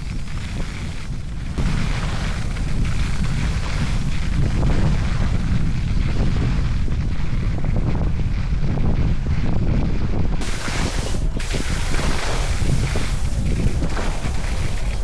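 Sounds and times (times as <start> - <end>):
skis scraping on snow: 0.0 - 8.4, 10.4 - 15.0
wind buffeting microphone: 0.0 - 15.0.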